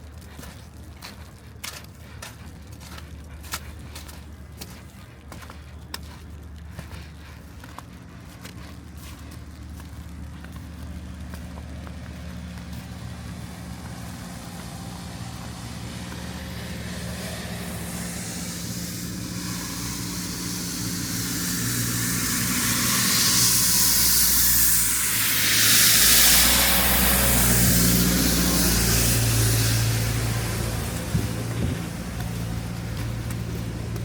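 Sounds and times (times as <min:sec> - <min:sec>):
tyre hiss on wet street: 0:00.0 - 0:34.0
vehicle engine hum: 0:00.0 - 0:34.0.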